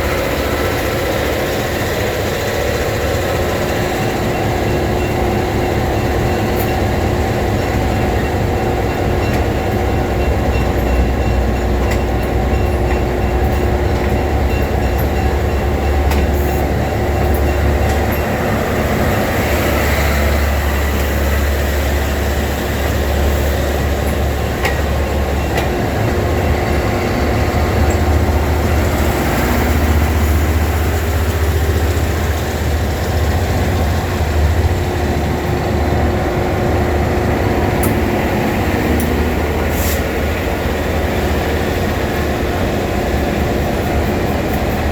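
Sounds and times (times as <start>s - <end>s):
train rumbling on rail: 0.0s - 44.9s.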